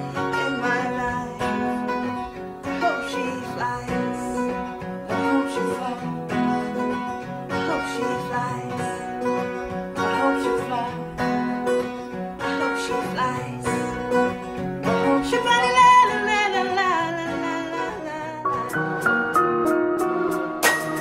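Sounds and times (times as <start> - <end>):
person singing: 0.0 - 18.8
acoustic guitar: 0.0 - 21.0.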